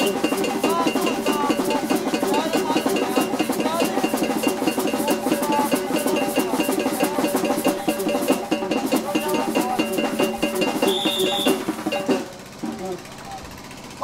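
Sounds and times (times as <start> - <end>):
wind instruments melody: 0.0 - 12.9
high metallic beat: 0.0 - 13.2
fast dense percussion: 0.0 - 14.0.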